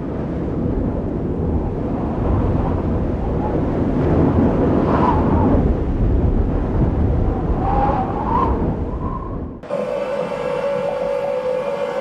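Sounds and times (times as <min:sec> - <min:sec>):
low rumble of wind: 0:00.0 - 0:09.7
whistling wind howl: 0:00.0 - 0:12.0.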